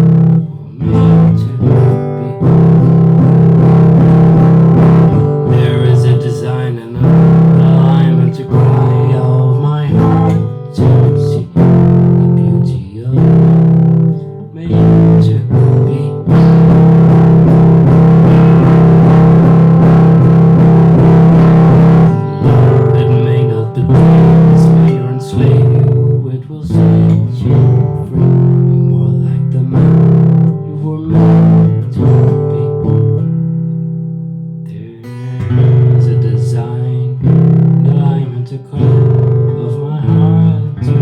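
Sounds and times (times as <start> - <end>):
bass: 0.0 - 41.0
plucked guitar chords: 0.0 - 41.0.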